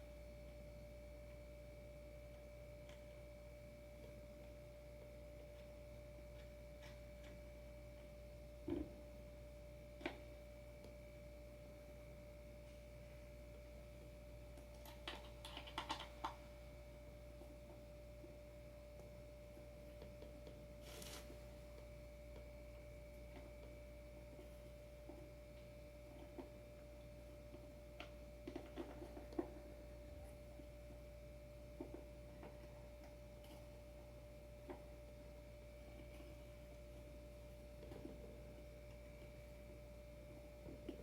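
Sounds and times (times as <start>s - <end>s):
faint steady whine: 0.0s - 41.0s.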